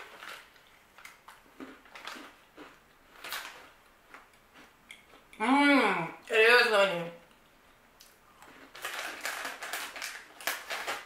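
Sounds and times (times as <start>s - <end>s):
cookie crunching while chewed: 0.0s - 5.4s, 7.4s - 11.0s.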